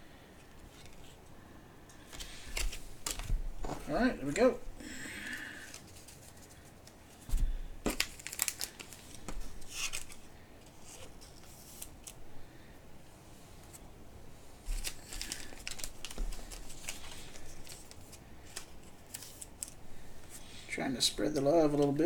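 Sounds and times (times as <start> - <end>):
trading cards and packaging handled: 0.4 - 1.2, 2.1 - 12.2, 14.6 - 22.0.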